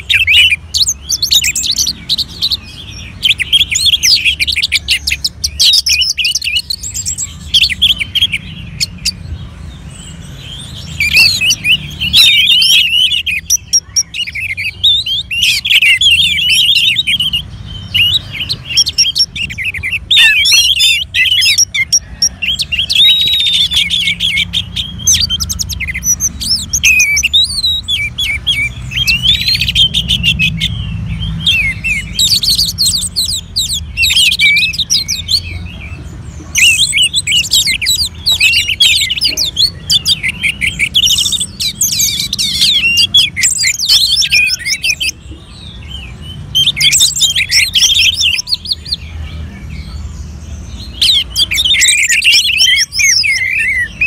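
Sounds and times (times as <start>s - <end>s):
bird singing: 0.0s - 54.0s.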